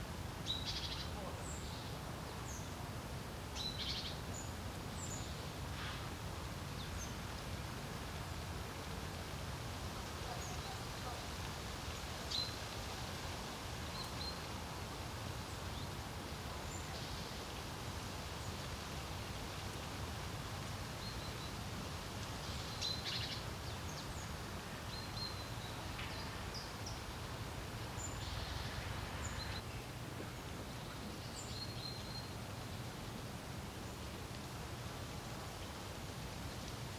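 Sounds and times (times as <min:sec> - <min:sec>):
low wind noise: 0:00.0 - 0:36.9.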